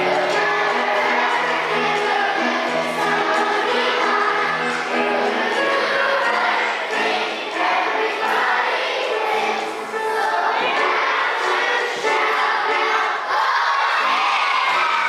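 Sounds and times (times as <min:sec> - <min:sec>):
children singing together: 0:00.0 - 0:15.0
music: 0:00.0 - 0:15.0.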